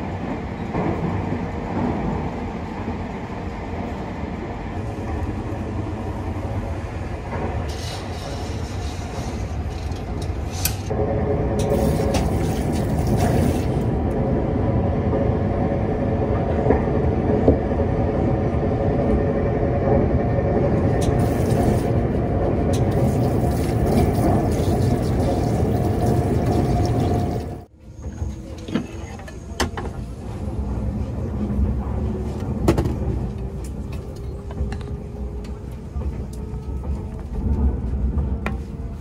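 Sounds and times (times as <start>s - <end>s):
train rumble inside carriage: 0.0s - 39.0s.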